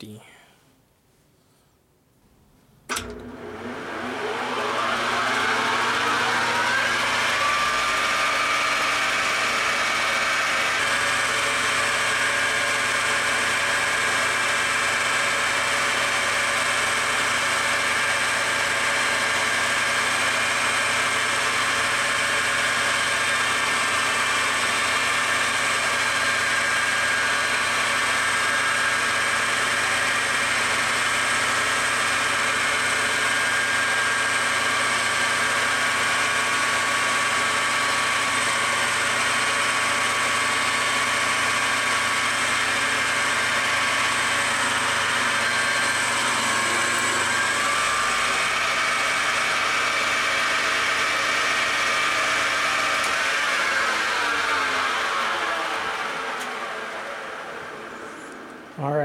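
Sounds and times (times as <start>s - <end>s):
metal lathe whining: 2.9s - 58.7s.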